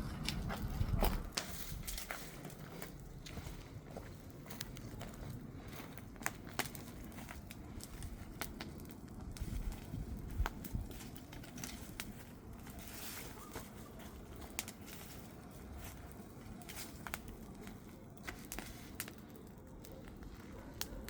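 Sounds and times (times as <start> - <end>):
burning wood crackling: 0.0 - 21.0.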